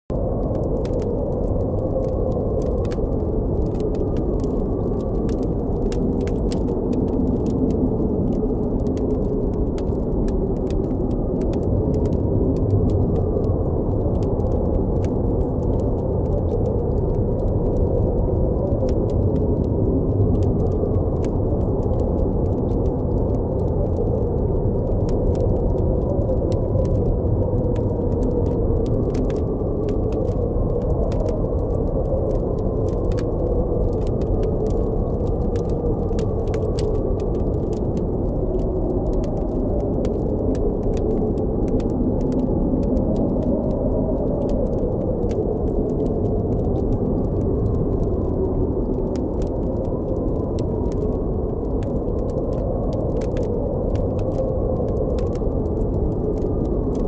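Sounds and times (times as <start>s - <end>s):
blizzard wind howling: 0.1s - 57.0s
campfire crackling: 0.2s - 57.0s.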